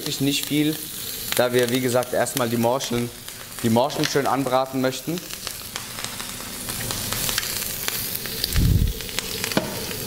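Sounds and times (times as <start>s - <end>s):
butter sizzling in a frying pan: 0.0s - 10.0s.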